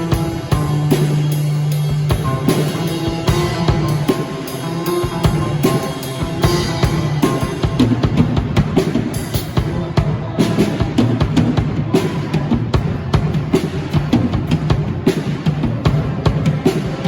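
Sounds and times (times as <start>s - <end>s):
drum kit beat: 0.0s - 17.0s
live band playing gospel music: 0.0s - 17.0s.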